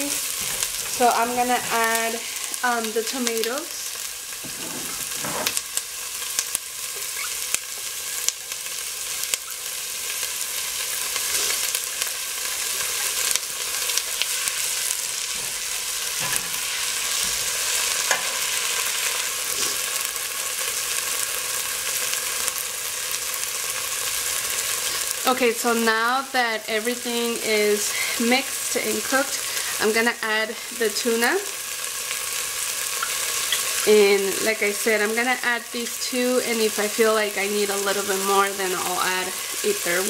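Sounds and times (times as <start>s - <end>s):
vegetables sizzling in oil: 0.0s - 40.0s.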